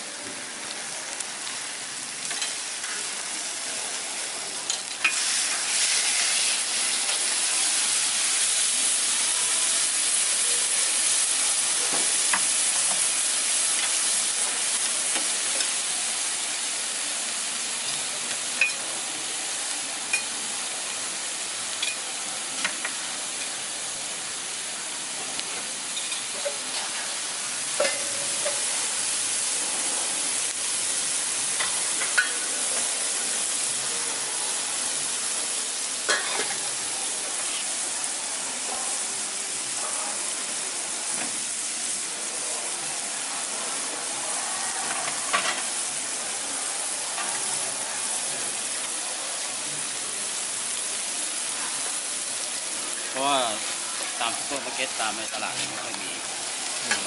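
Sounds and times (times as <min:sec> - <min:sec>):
meat sizzling on a griddle: 0:00.0 - 0:57.0.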